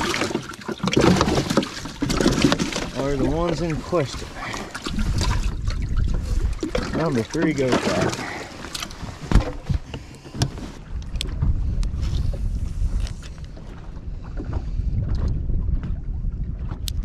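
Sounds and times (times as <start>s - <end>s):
wind buffeting microphone: 2.0s - 17.0s.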